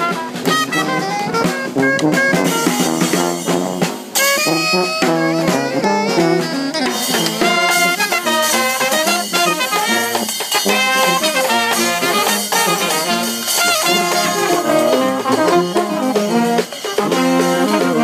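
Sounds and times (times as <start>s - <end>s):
street brass band playing jazz: 0.0s - 18.0s.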